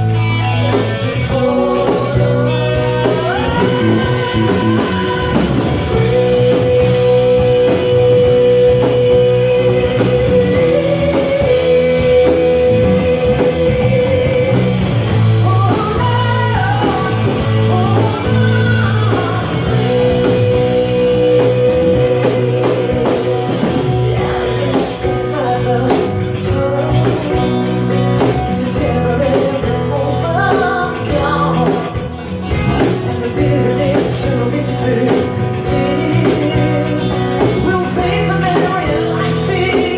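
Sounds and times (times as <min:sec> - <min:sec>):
rock blues guitar song: 0:00.0 - 0:39.9.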